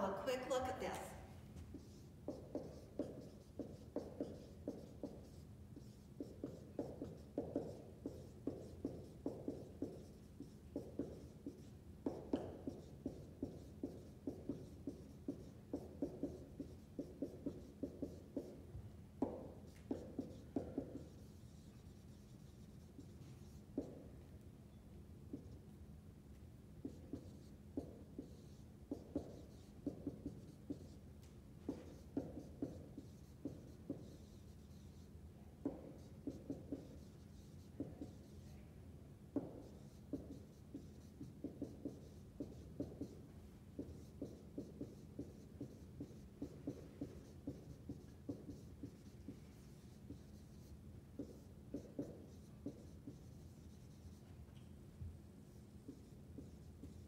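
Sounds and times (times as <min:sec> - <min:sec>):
marker writing on whiteboard: 0:00.0 - 0:25.8, 0:26.8 - 0:38.7, 0:39.3 - 0:57.0.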